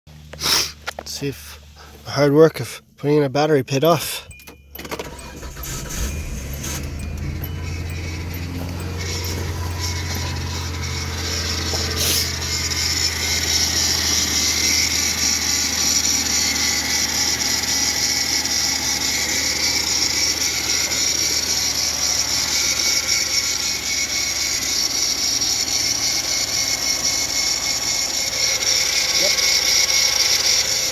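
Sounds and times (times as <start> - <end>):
car engine clattering: 3.7 - 30.9.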